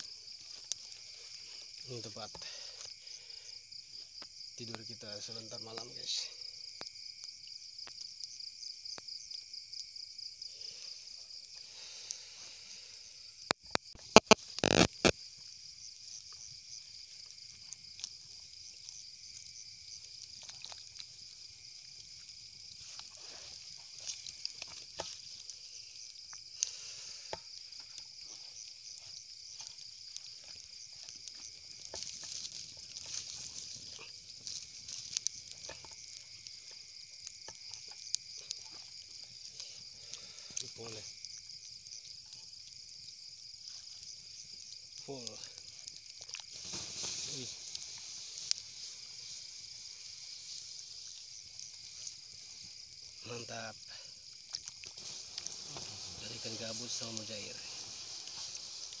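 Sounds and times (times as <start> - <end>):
campfire crackling: 0.0 - 59.0
crickets trilling: 0.0 - 59.0.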